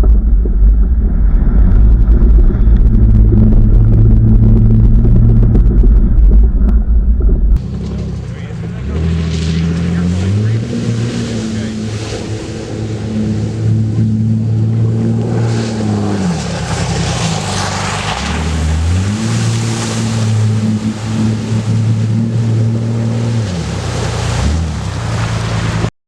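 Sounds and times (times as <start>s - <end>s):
car engine pulling: 0.0s - 25.9s
steady rushing noise: 0.0s - 25.9s.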